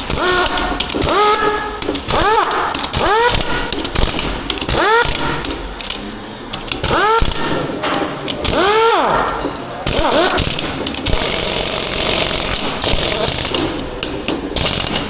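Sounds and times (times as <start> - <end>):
workshop knocks and clatter: 0.0 - 15.0.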